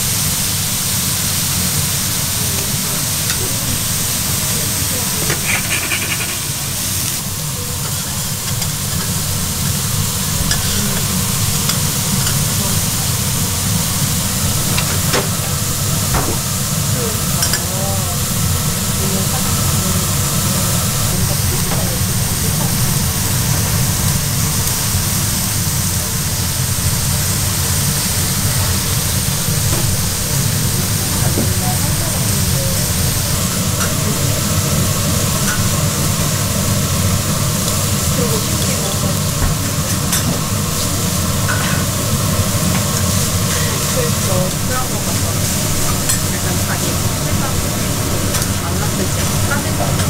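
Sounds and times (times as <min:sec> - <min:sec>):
beef sizzling on a griddle: 0:00.0 - 0:50.0.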